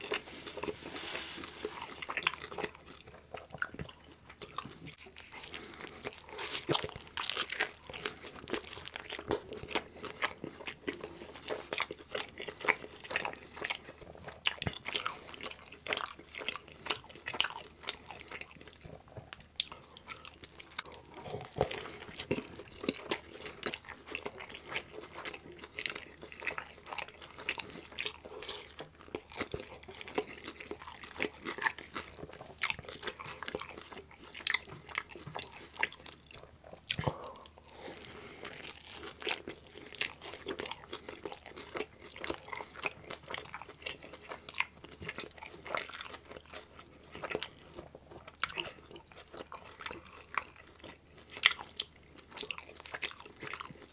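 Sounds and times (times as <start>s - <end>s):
chewing pizza crust: 0.0s - 53.9s.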